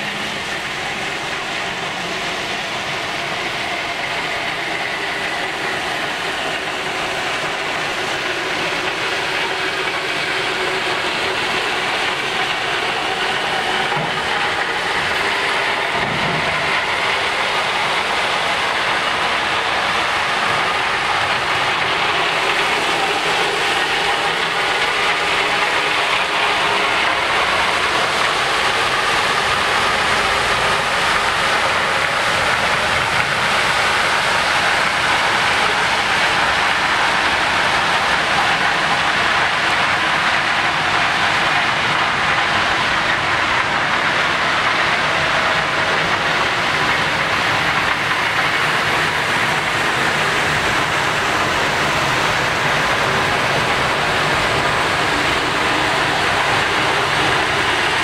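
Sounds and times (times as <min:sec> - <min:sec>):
steel wheels rolling: 0:00.0 - 0:58.0.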